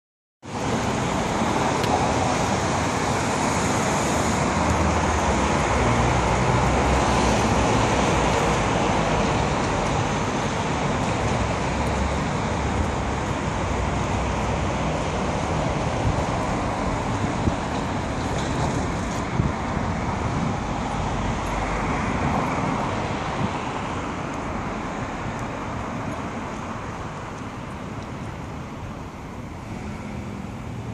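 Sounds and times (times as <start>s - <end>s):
street traffic: 0.4s - 30.9s.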